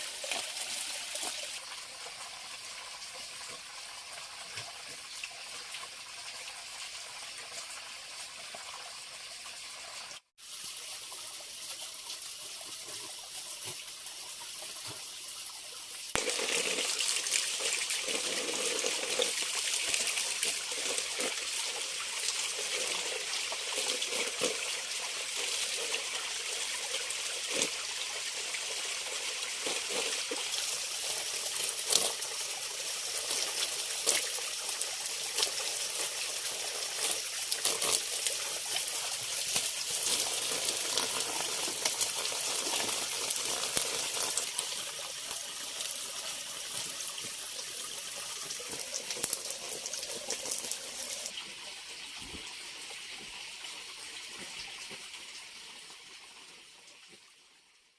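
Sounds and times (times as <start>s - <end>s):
water running and trickling: 0.0s - 57.4s.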